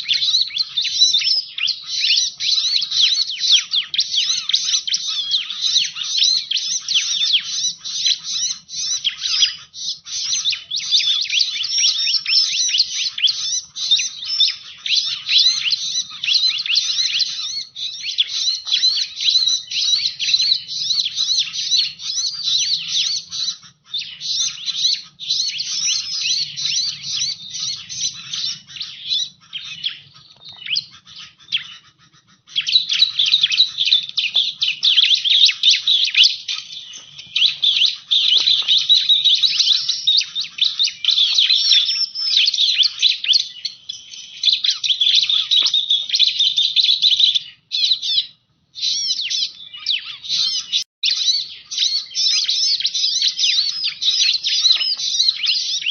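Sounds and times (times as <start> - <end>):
bird high chirps and trills: 0.0 - 55.9.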